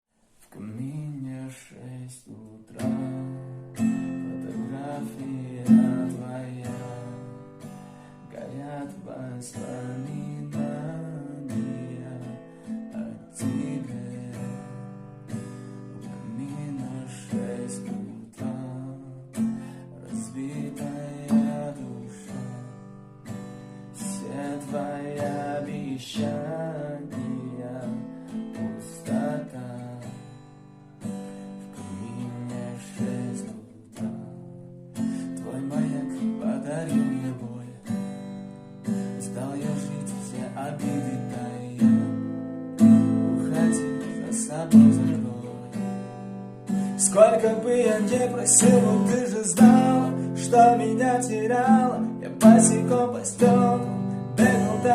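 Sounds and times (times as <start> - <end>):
acoustic guitar strumming: 0.6 - 54.9.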